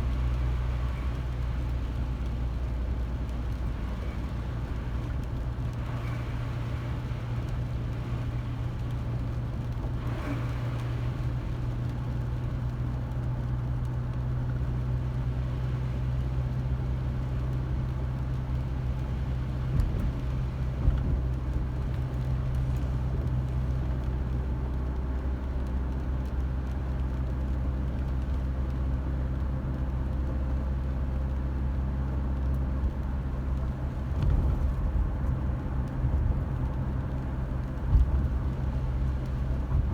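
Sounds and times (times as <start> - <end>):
car engine and road hum: 0.0 - 39.9.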